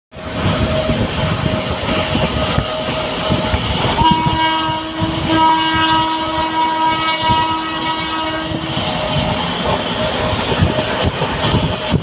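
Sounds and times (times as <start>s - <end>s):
train horn: 0.1s - 12.0s
train wheels rumbling on rails: 0.1s - 12.0s.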